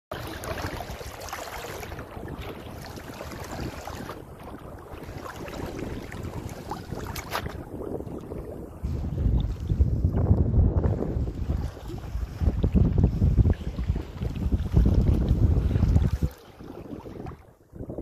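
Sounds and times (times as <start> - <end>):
seawater lapping and sloshing: 0.1 - 18.0
water splashes: 0.1 - 18.0
wind buffeting microphone: 0.1 - 18.0.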